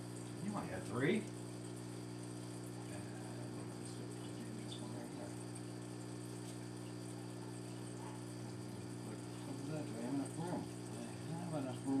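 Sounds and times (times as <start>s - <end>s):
aquarium pump electrical hum: 0.0s - 12.0s
faint watery hiss: 0.0s - 12.0s.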